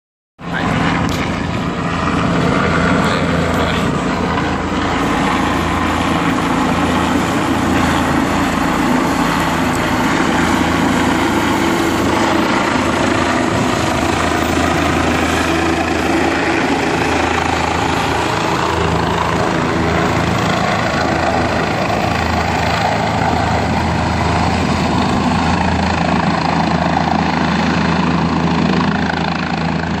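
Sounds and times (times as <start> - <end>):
helicopter engine and rotor: 0.4 - 30.0.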